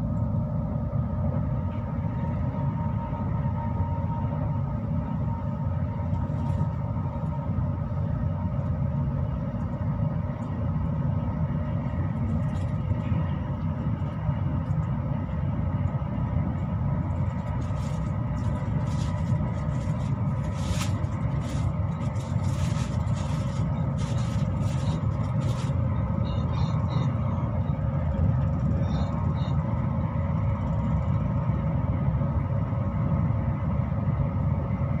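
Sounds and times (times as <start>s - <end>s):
train rumble and hum: 0.0s - 35.0s.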